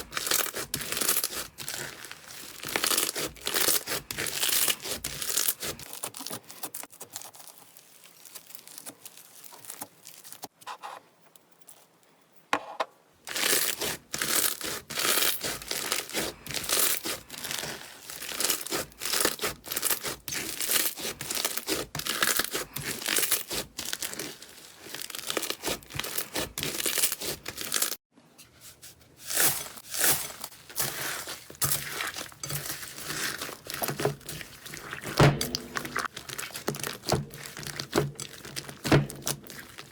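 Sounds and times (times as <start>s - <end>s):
slime crackling and popping: 0.0s - 10.5s, 13.3s - 28.0s, 29.3s - 39.9s.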